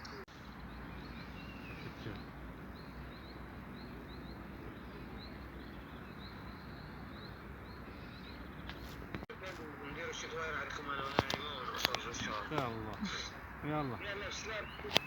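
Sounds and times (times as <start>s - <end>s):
small birds chirping: 0.0s - 15.0s
steady outdoor hum: 0.0s - 15.0s.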